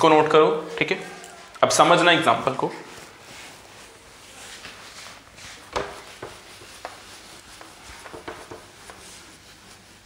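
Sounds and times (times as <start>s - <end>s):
soft rustling: 0.7s - 10.0s
cloth wiping whiteboard: 1.8s - 10.0s.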